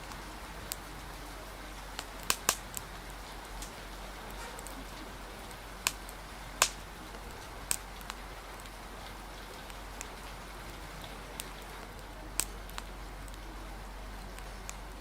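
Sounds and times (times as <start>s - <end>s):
steady rain hiss: 0.0s - 15.0s
wood fire crackling pops: 0.0s - 15.0s.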